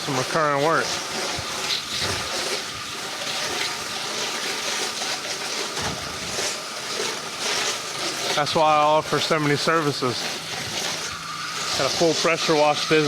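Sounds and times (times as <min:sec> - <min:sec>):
pressure washer spraying walls: 0:00.0 - 0:13.0.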